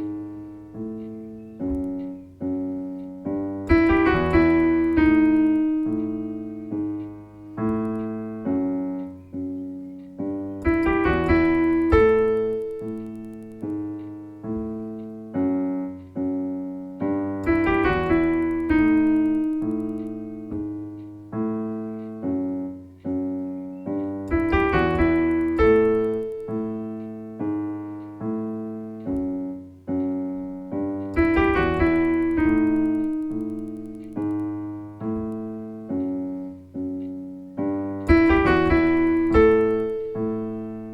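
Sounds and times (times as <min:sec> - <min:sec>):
solo piano music: 0:00.0 - 0:40.9.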